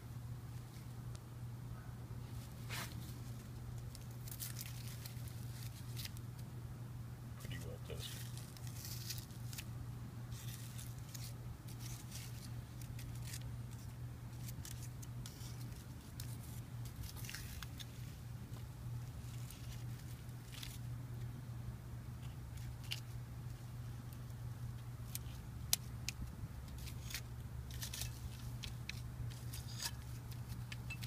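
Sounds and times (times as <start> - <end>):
steady low hum: 0.0 - 31.0
burnt plastic crunching: 2.6 - 6.5, 7.9 - 20.9, 22.2 - 31.0.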